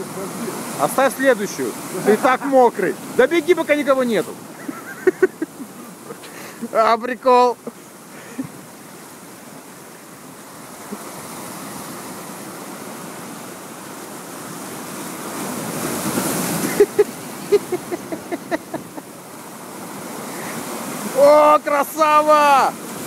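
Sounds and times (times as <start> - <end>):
surf breaking against rocks: 0.0 - 23.0.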